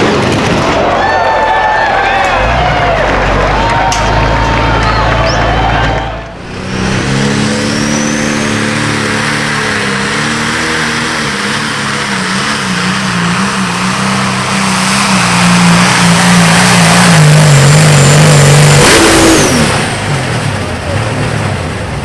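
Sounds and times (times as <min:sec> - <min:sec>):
tractor engine running hard: 0:00.0 - 0:22.0.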